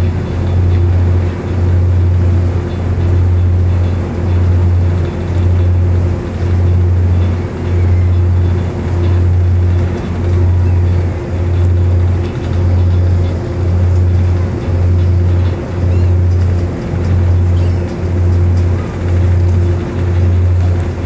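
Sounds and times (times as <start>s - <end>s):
ferry engines humming: 0.0s - 21.0s.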